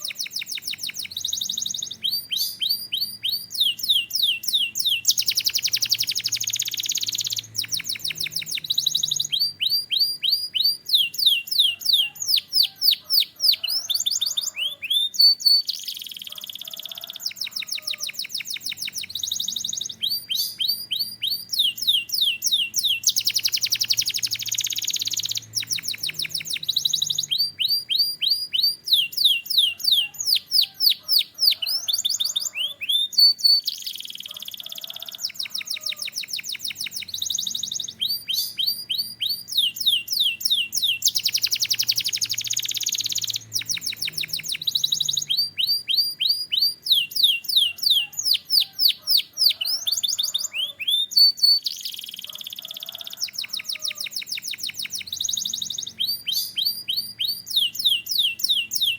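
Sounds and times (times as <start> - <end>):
canary singing: 0.0 - 58.9.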